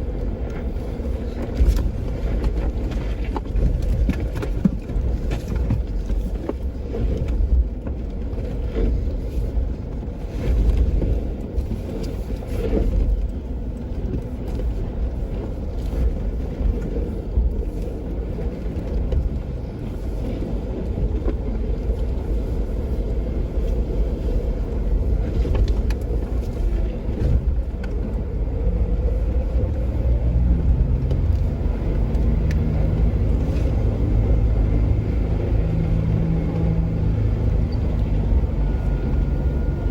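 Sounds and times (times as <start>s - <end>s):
vehicle engine and tyres rumbling: 0.0s - 39.9s.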